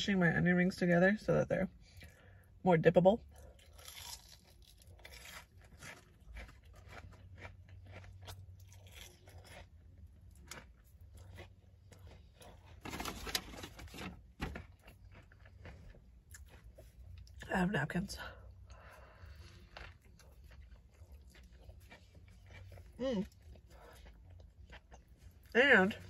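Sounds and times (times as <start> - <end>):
crunchy chewing of onion rings: 3.2 - 17.5, 18.3 - 26.0.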